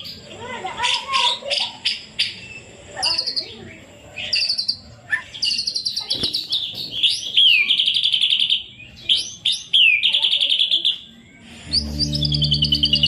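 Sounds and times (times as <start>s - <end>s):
songbird singing fast trills: 1.8s - 13.0s.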